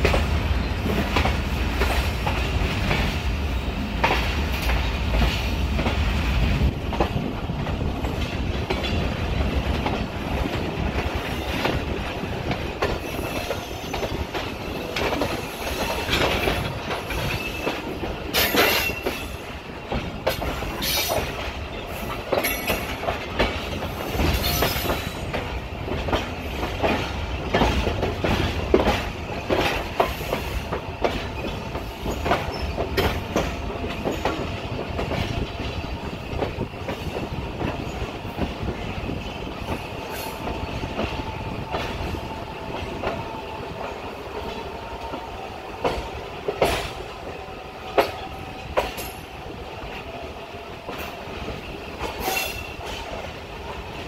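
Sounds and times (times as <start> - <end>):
train wheels clattering over joints: 0.0 - 54.0.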